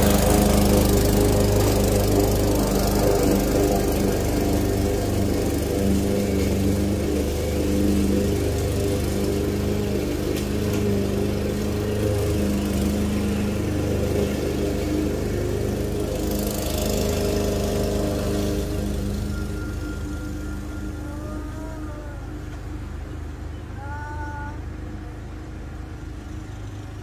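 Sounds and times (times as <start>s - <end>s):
lawn mower engine cutting grass: 0.0s - 23.8s, 24.7s - 27.0s.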